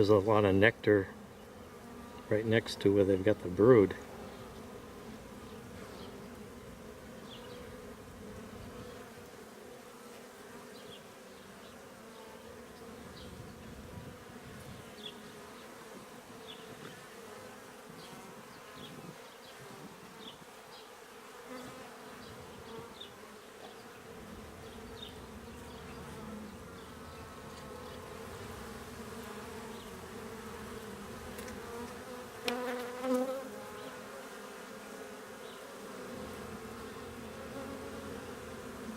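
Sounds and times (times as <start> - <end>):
honey bees buzzing: 0.0 - 38.9.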